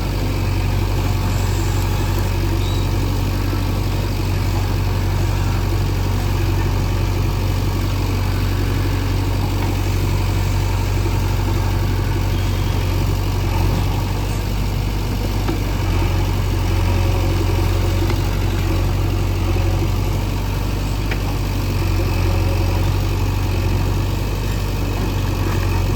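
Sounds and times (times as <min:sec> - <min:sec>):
diesel engine droning: 0:00.0 - 0:25.9.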